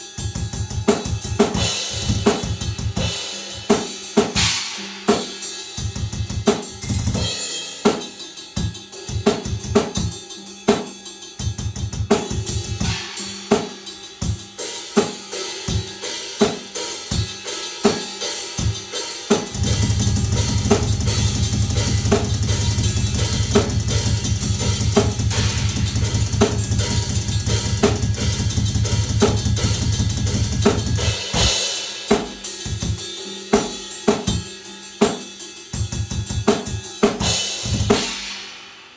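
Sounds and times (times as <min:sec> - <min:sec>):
drum and cymbal hits: 0:00.0 - 0:38.9
fast continuous low drum hits: 0:00.2 - 0:38.3.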